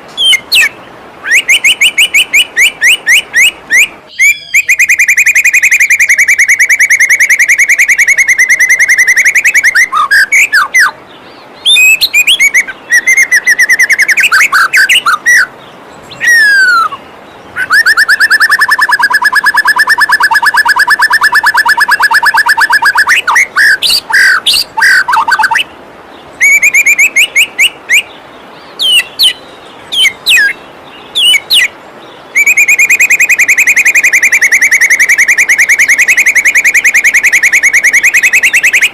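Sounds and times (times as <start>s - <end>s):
songbird trills and whistles: 0.2s - 15.5s, 16.1s - 17.0s, 17.6s - 25.7s, 26.4s - 31.7s, 32.3s - 38.9s.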